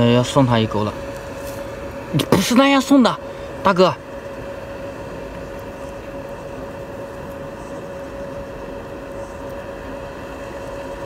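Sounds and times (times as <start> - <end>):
background hum: 0.0 - 11.0
faint constant tone: 0.0 - 11.0.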